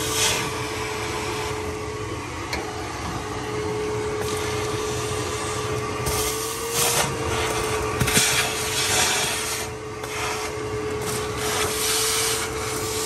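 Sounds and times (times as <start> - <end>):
shop vacuum whining: 0.0 - 13.0.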